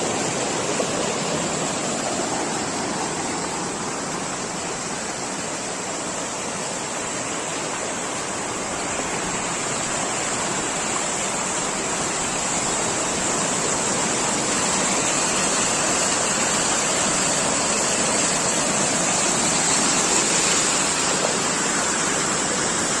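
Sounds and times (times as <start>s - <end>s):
rushing water roar: 0.0s - 23.0s.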